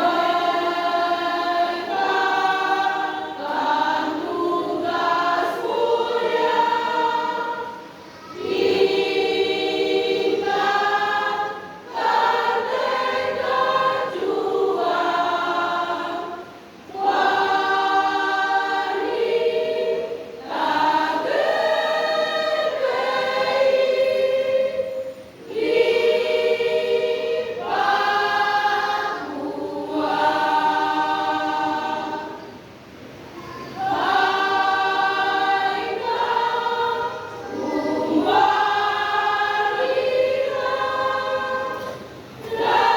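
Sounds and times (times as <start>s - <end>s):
church choir singing a hymn: 0.0s - 42.9s.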